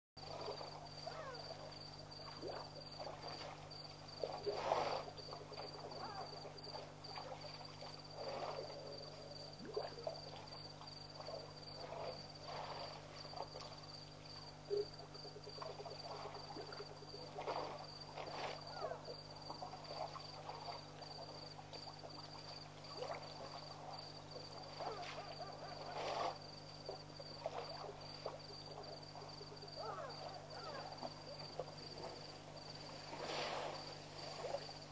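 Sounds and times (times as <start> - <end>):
high insect drone: 0.2 - 34.9.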